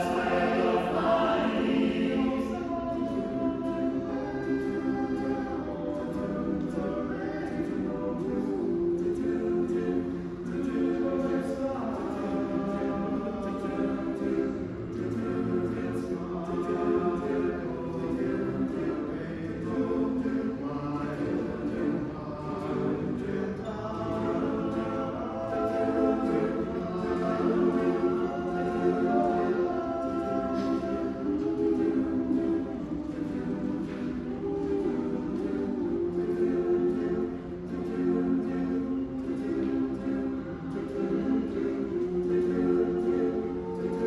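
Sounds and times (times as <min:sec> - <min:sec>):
mixed choir singing in harmony: 0:00.0 - 0:44.0.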